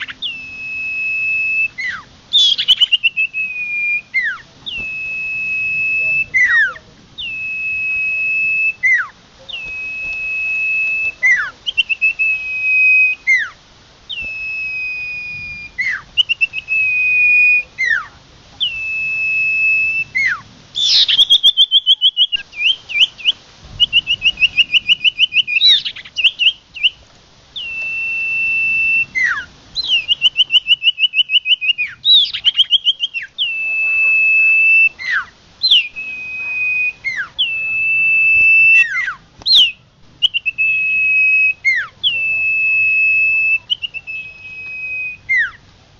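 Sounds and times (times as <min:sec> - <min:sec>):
bird song whistle: 0:00.0 - 0:27.0, 0:27.6 - 0:45.7
fast bird trill: 0:00.0 - 0:27.0, 0:27.6 - 0:45.6.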